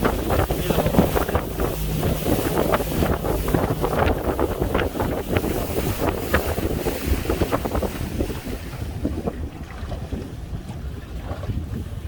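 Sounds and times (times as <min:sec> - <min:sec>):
water slapping boat hull: 0:00.0 - 0:12.0
waves washing: 0:00.0 - 0:12.0
wind buffeting microphone: 0:00.0 - 0:12.0.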